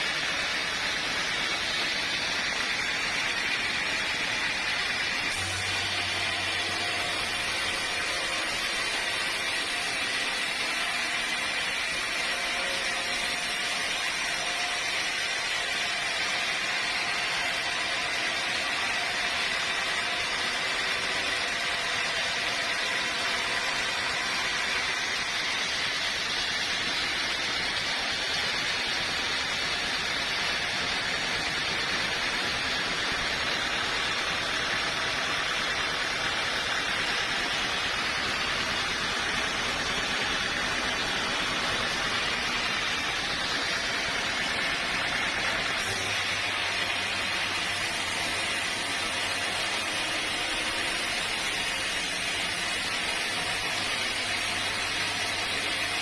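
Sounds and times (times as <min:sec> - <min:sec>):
sawmill saw cutting wood: 0:00.0 - 0:56.0.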